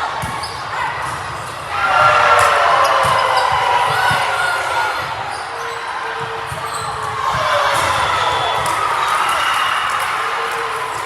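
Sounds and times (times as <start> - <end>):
people shouting and cheering: 0.0 - 11.0.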